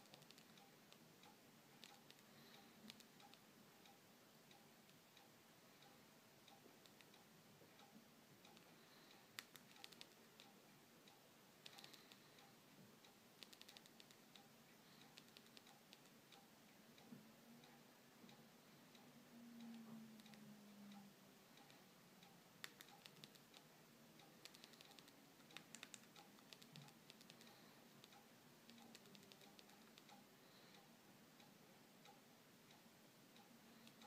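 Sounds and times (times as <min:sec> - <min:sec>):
faint steady ticking: 0:00.0 - 0:34.0.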